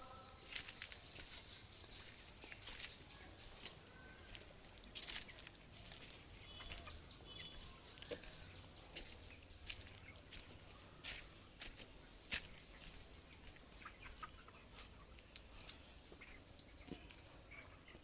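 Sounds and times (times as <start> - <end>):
chickens clucking: 0.4 - 18.0.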